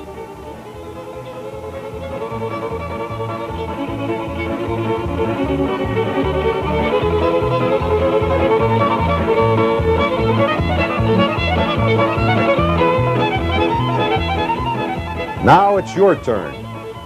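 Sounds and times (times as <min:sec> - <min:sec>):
fiddle playing: 0:00.0 - 0:17.0.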